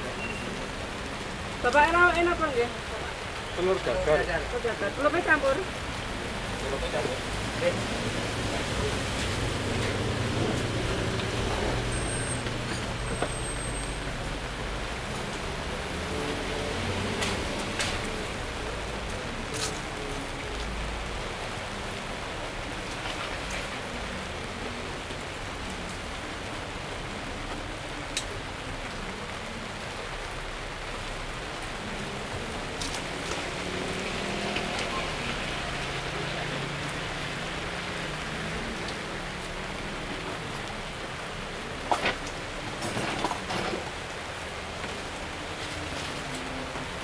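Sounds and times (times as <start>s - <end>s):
heavy rain on a tent roof: 0.0s - 47.0s.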